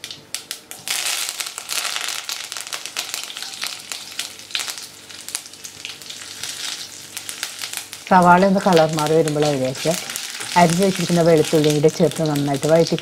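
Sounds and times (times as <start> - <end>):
onions sizzling and popping in oil: 0.0 - 13.0.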